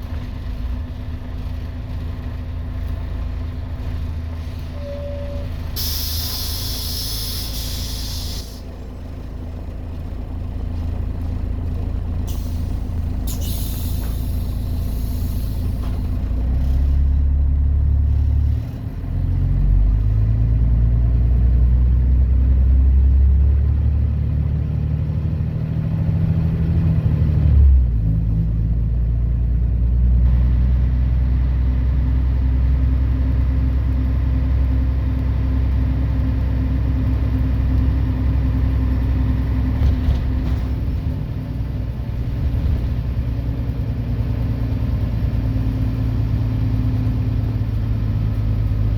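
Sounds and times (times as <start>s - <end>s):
bus diesel engine accelerating: 0.0s - 48.9s.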